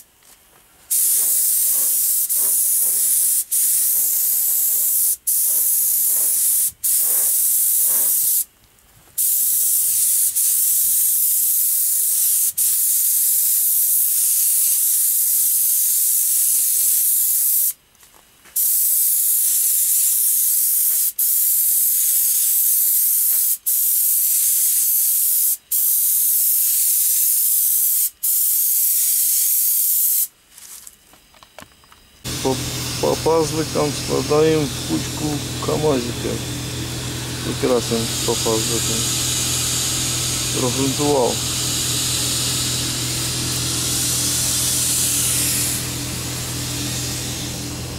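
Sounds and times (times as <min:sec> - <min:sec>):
spray gun hissing: 0:00.9 - 0:08.5, 0:09.2 - 0:17.8, 0:18.6 - 0:30.3, 0:32.3 - 0:47.9.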